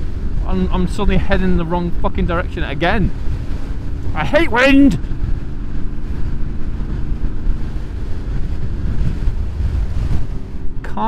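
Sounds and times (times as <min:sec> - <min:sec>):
motorcycle engine droning: 0:00.0 - 0:11.0
wind buffeting microphone: 0:00.0 - 0:11.0.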